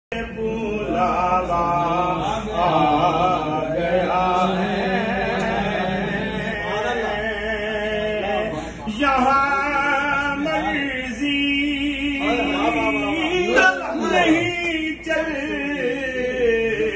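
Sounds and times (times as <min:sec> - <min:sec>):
men chanting: 0:00.1 - 0:16.9.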